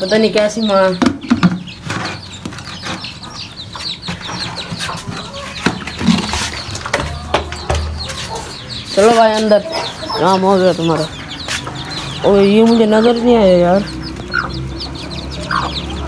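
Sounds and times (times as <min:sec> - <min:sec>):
chicks chirping: 0:00.0 - 0:16.0
hen clucking: 0:00.0 - 0:16.0.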